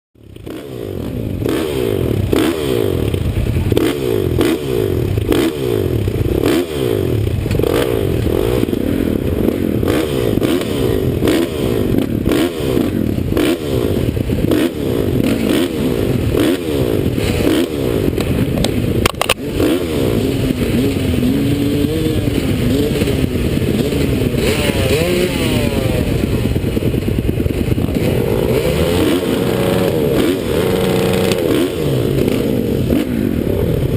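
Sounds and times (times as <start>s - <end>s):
motorcycle engine revving: 0.2s - 33.9s.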